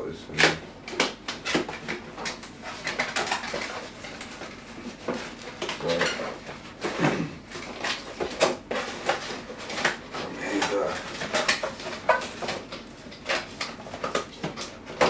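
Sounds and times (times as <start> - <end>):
packaging rustling: 0.9 - 15.0.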